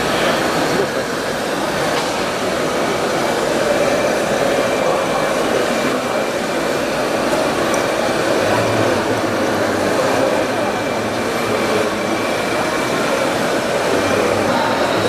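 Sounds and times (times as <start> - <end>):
exhibition hall crowd din: 0.0 - 15.0.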